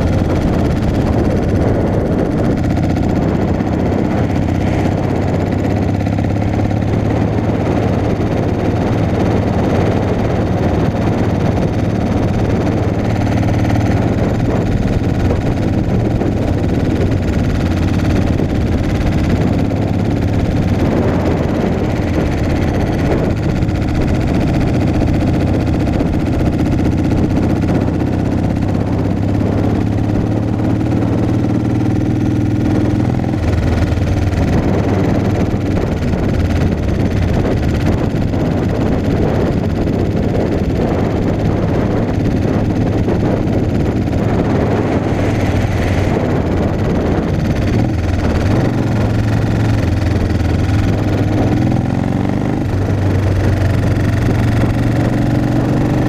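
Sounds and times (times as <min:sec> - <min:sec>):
motorcycle engine cruising: 0:00.0 - 0:56.0
wind rush: 0:00.0 - 0:56.0.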